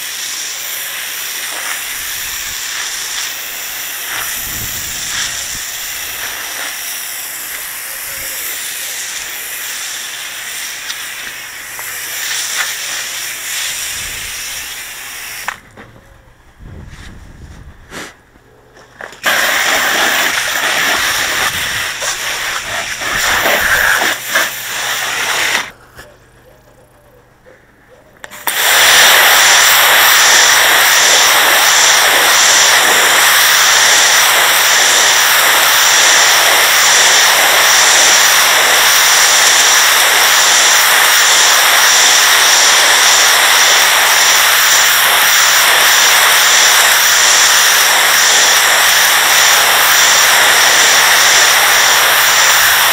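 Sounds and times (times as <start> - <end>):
pressure washer spraying water: 0.0 - 15.6, 19.1 - 25.7, 28.3 - 52.9.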